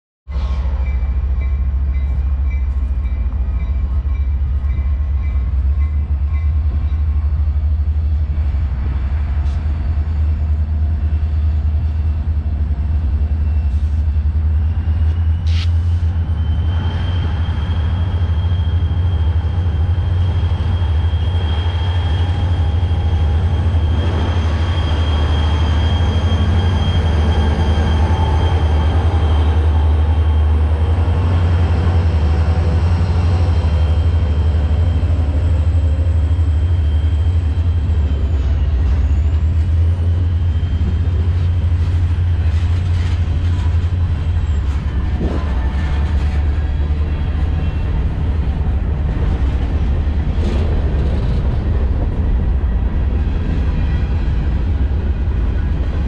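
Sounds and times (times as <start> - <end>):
diesel locomotive rumble: 0.3 - 56.0.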